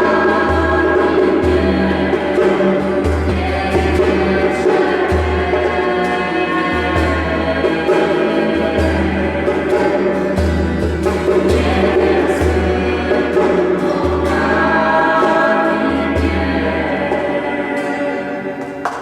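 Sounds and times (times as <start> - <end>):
band playing worship song: 0.0 - 19.0.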